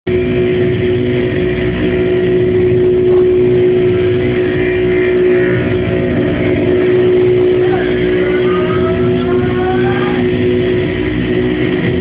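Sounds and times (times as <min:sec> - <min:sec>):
dense rumbling low noise: 0:00.1 - 0:12.0
loud steady drone tone: 0:00.1 - 0:12.0.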